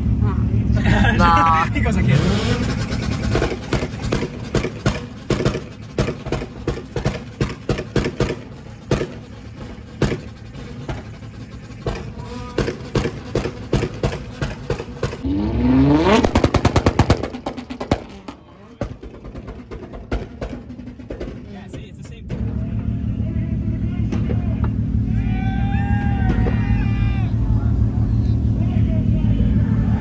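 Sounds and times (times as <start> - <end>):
car engine revving: 0.0 - 30.0
exhaust popping and banging: 0.0 - 30.0.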